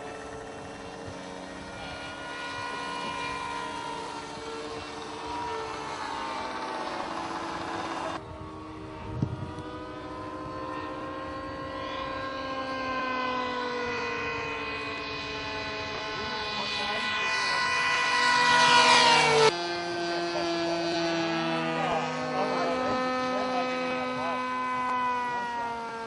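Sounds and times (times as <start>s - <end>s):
model airplane engine: 0.0s - 26.0s.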